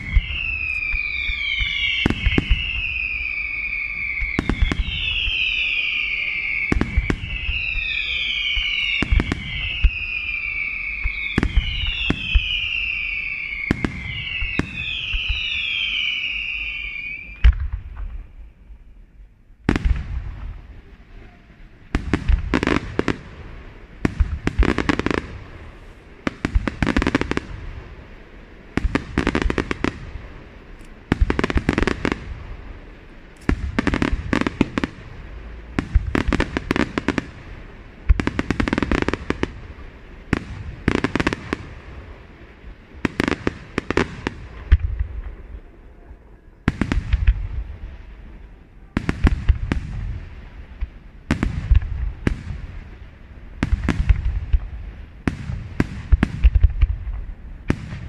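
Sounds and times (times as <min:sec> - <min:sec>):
fireworks bangs: 0:00.0 - 0:58.0
fireworks crackling: 0:00.0 - 0:58.0
fireworks whistling: 0:00.0 - 0:58.0.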